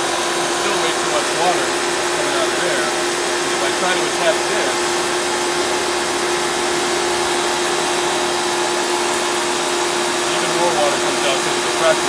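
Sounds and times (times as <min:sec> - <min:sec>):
pressure washer running: 0:00.0 - 0:12.0.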